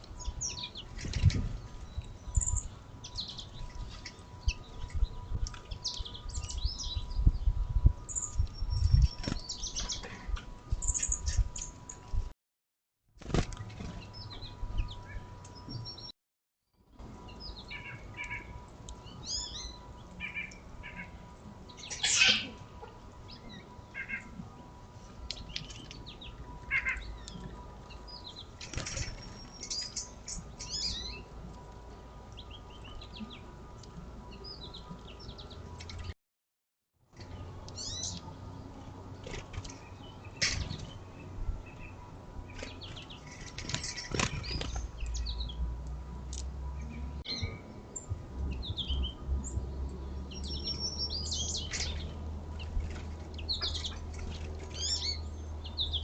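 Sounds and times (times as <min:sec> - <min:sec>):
songbirds chirping and trilling: 0:00.0 - 0:12.3, 0:13.2 - 0:16.1, 0:16.9 - 0:36.2, 0:37.1 - 0:56.0.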